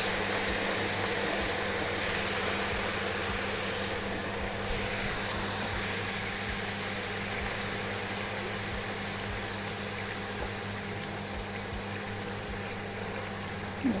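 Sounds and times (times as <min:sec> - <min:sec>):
low steady hum: 0:00.0 - 0:14.0
potatoes sizzling in hot oil: 0:00.0 - 0:14.0.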